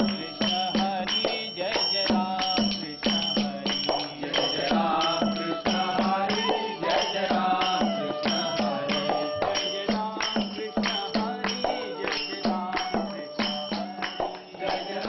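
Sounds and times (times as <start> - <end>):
men chanting together: 0.0 - 15.0
small drum: 0.0 - 15.0
small hand cymbals: 0.0 - 15.0.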